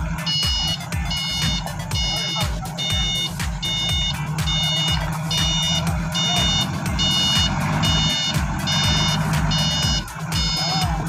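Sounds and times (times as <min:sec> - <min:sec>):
forklift backup alarm beeping: 0:00.0 - 0:11.0
forklift engine running: 0:00.0 - 0:11.0.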